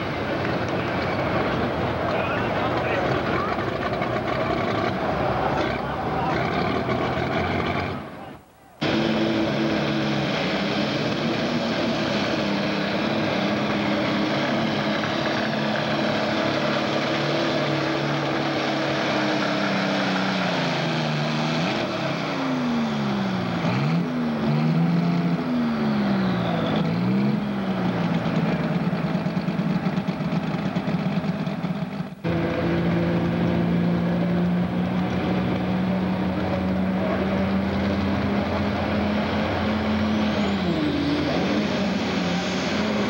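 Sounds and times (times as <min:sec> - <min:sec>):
diesel tractor engine under load: 0:00.0 - 0:43.0.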